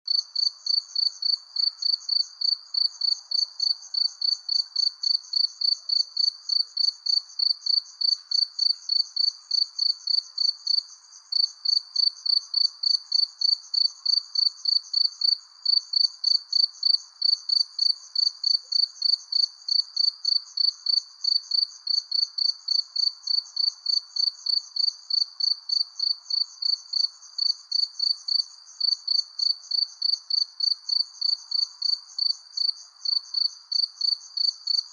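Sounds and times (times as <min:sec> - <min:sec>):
cricket chirping: 0:00.1 - 0:34.9
faint background hiss: 0:00.1 - 0:34.9.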